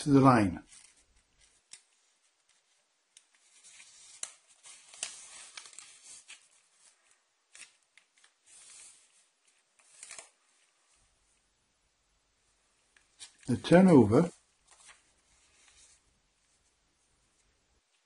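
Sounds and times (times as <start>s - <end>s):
paper being folded: 0.6s - 11.0s, 12.9s - 18.0s.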